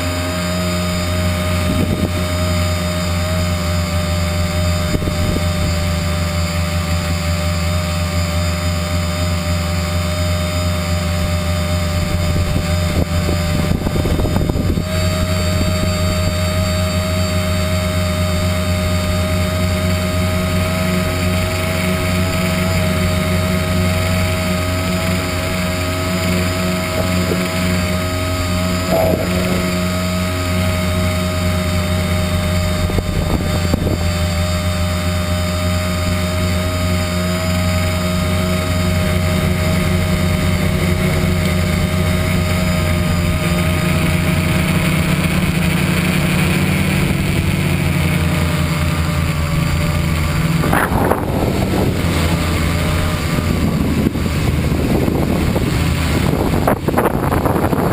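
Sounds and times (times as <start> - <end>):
drone motors and propellers humming: 0.0 - 57.9.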